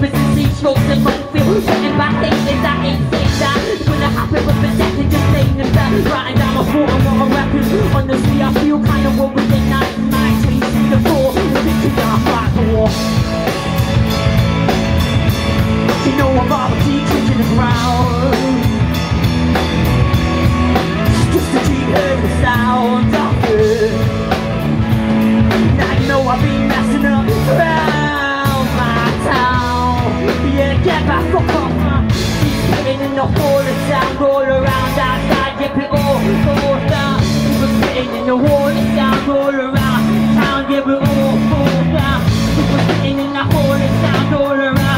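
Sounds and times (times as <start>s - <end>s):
drum kit: 0.0s - 44.9s
electric bass: 0.0s - 44.9s
electric guitar: 0.0s - 44.9s
lead vocal singing: 0.0s - 44.9s.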